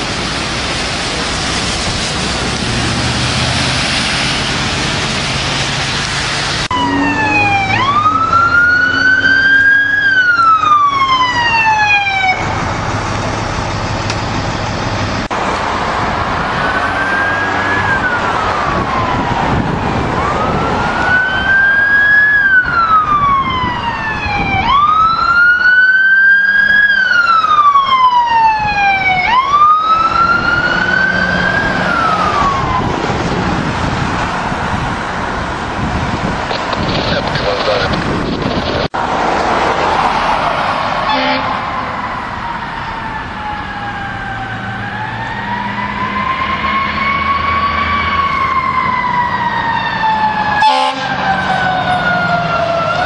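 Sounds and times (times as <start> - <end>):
fire truck siren wailing: 0.0 - 53.0
road and engine noise: 0.0 - 53.0.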